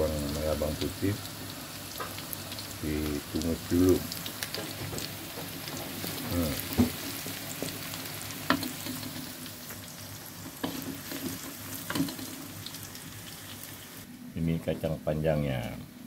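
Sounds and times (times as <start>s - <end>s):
shallots and garlic sizzling in oil: 0.0s - 14.1s.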